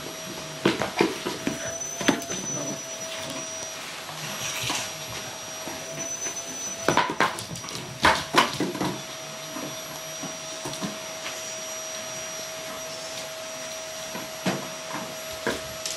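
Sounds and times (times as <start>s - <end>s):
vacuum cleaner running: 0.0s - 15.9s.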